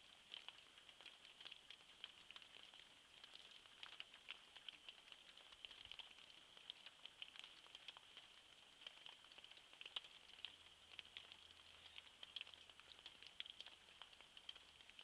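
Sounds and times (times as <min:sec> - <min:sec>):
raindrops pattering: 0:00.0 - 0:15.0.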